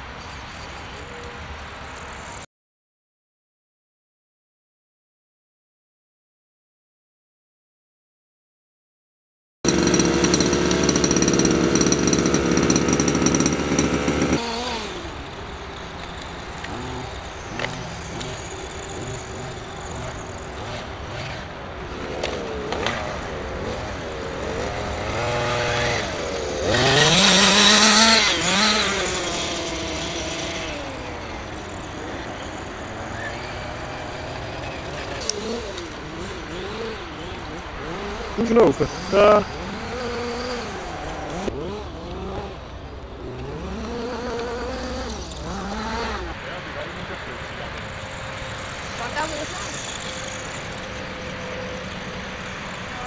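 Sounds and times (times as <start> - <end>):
electric motor and gears whining: 9.7 - 53.0.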